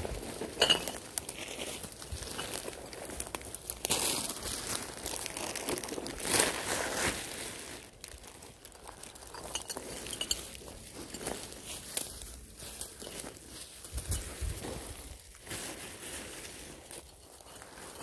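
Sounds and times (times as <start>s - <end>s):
debris clinks and crunches: 0.0s - 6.7s, 8.0s - 18.0s
plastic bag rustling: 0.0s - 18.0s.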